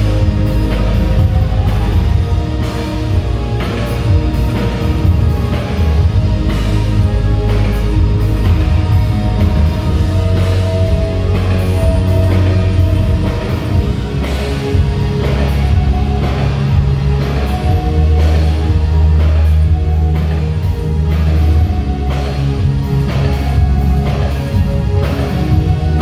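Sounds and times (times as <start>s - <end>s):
electric bass: 0.0s - 26.0s
guitar: 0.0s - 26.0s
keyboard: 0.0s - 26.0s
steady drum beat: 0.0s - 26.0s.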